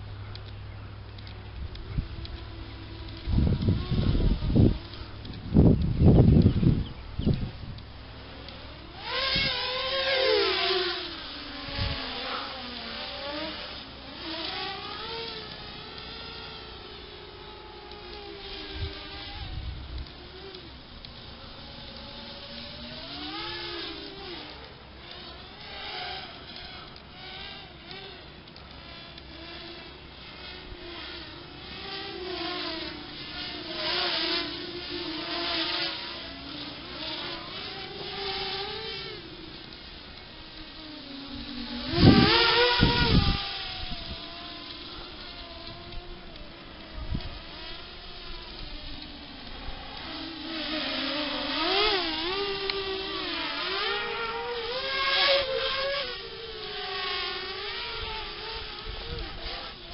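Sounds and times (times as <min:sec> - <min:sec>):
quadcopter propellers whining: 0:00.0 - 0:59.9.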